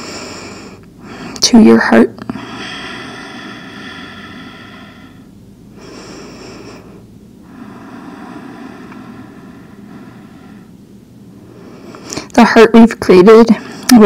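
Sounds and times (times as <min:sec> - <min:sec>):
person breathing deeply: 0:00.0 - 0:01.4, 0:02.2 - 0:12.3.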